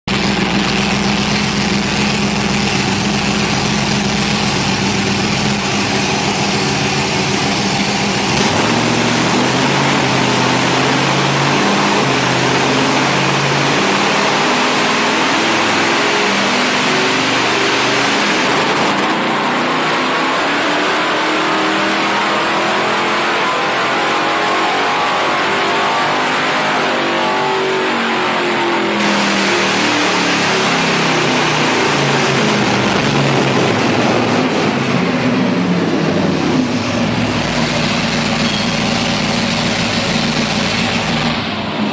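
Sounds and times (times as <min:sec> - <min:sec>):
engine revving on dynamometer: 0:00.1 - 0:41.9.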